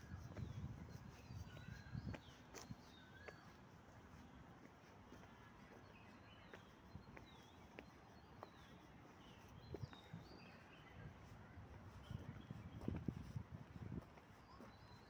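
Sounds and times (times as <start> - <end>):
footsteps on paving: 0.0 - 15.0.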